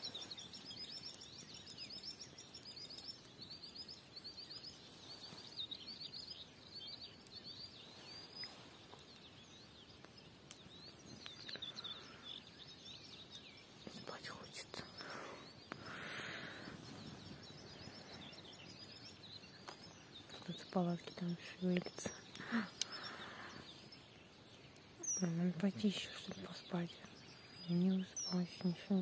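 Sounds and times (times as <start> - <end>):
small birds singing faintly: 0.0 - 29.0
soft outdoor hiss: 0.0 - 29.0.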